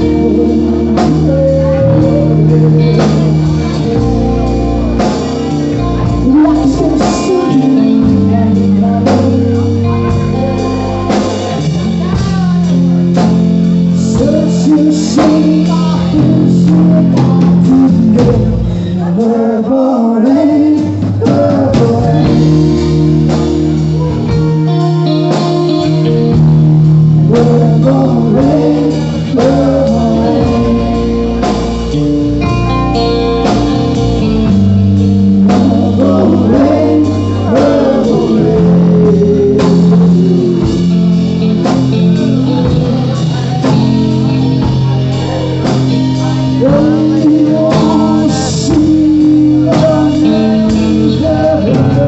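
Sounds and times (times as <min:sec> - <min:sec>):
man singing: 0:00.0 - 0:32.7, 0:33.4 - 0:52.0
drums: 0:00.0 - 0:52.0
electric guitar: 0:00.0 - 0:52.0.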